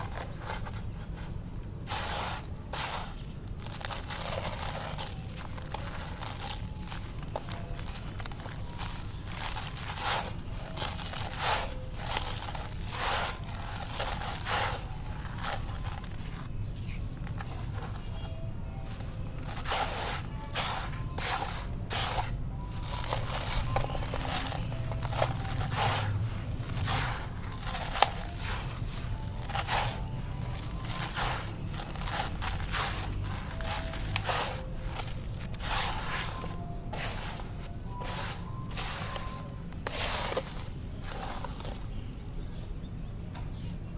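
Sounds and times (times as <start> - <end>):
concrete crunching: 0.0 - 42.2.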